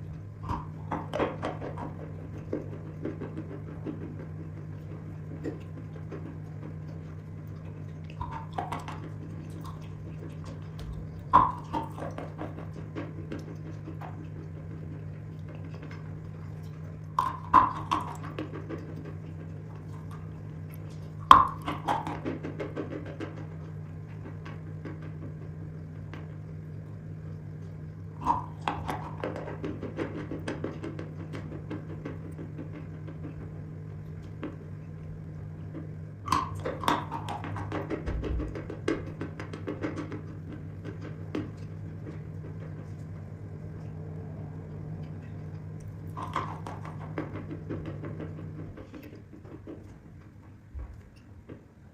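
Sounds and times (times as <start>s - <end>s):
moist crackling chewing: 0.0s - 51.3s
steady low hum: 0.0s - 51.9s.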